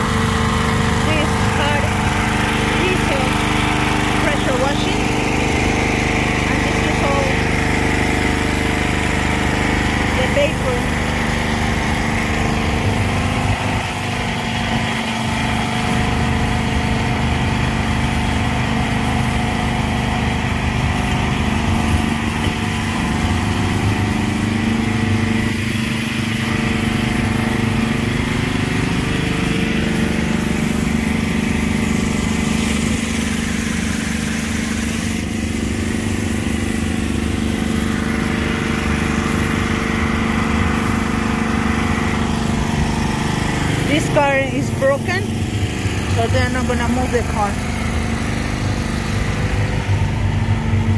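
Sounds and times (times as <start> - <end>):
pressure washer engine running: 0.0 - 50.9.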